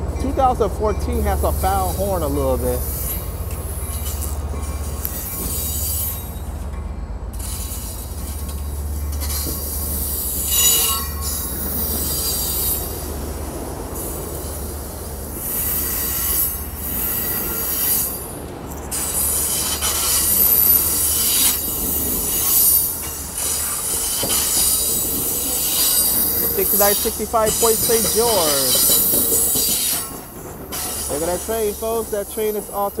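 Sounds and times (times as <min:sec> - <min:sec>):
low train rumble: 0:00.0 - 0:33.0
train wheels squealing on rails: 0:00.0 - 0:33.0.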